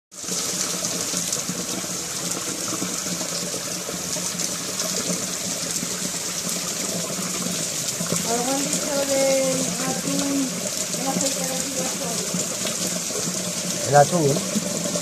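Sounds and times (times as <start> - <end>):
heavy rain on concrete and roofs: 0.1 - 15.0.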